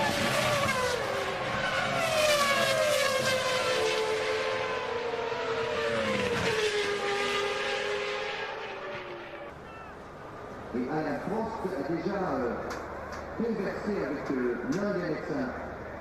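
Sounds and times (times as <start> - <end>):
racing car engines passing: 0.0 - 16.0.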